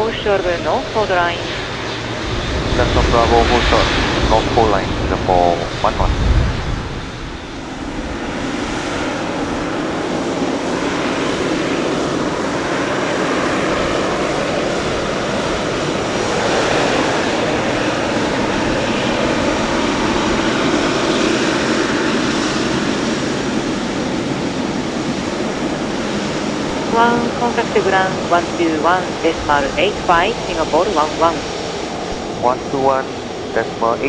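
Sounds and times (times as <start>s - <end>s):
jet engines rushing: 0.0s - 34.0s.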